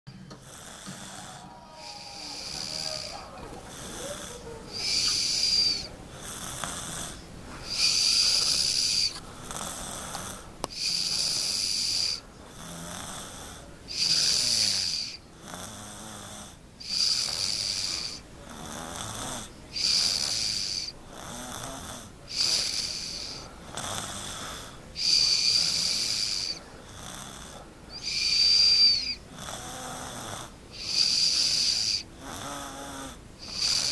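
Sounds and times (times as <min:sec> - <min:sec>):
child snoring with wheezy whistle: 0:00.4 - 0:33.9.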